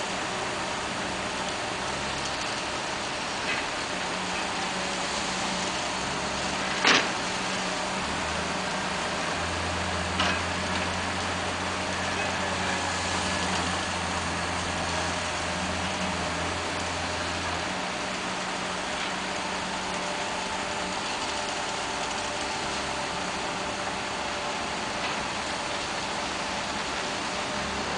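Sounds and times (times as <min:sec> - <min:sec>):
heavy machine engine running: 0:00.0 - 0:27.9
roadside noise: 0:00.0 - 0:27.9.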